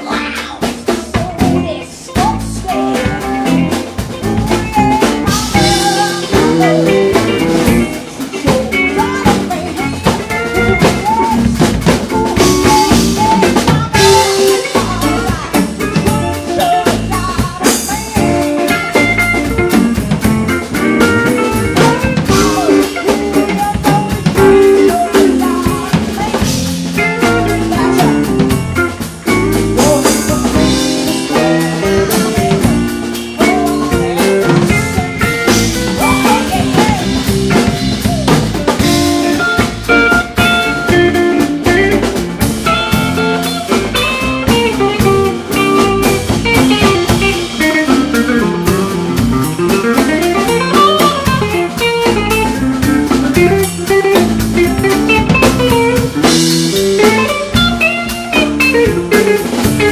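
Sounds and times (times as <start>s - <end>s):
blues band playing: 0.0s - 59.9s
lead guitar with bent notes: 0.0s - 59.9s.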